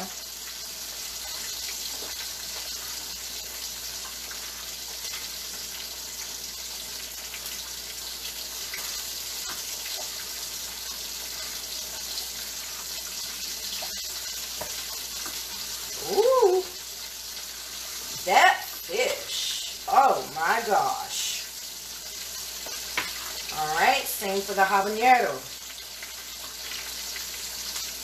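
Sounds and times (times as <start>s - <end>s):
fish sizzling in oil: 0.0s - 28.0s.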